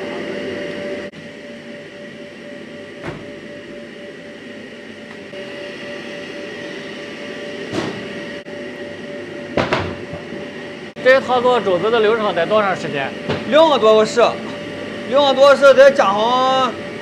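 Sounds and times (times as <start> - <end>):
constant hum: 0.0 - 17.0
gas burners roaring: 0.0 - 17.0.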